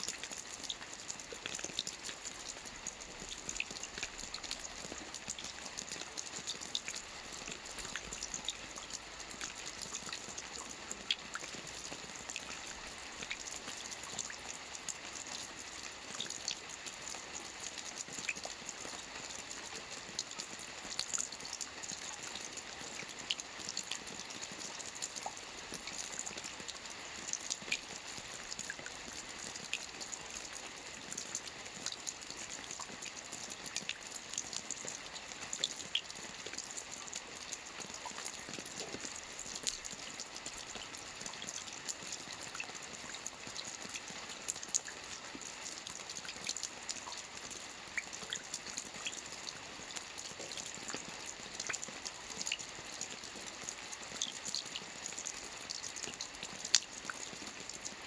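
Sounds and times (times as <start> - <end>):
rain on a roof: 0.0 - 58.0
raindrops ticking: 0.0 - 58.0.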